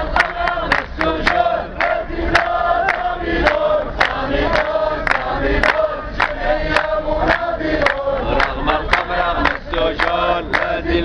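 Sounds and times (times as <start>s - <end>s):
crowd chanting in unison: 0.0s - 11.0s
rhythmic hand clapping: 0.0s - 11.0s.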